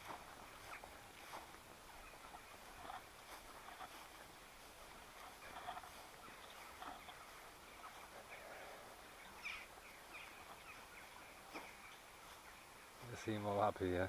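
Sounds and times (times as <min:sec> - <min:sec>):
background hiss: 0:00.0 - 0:14.0
birds chirping: 0:00.0 - 0:14.0.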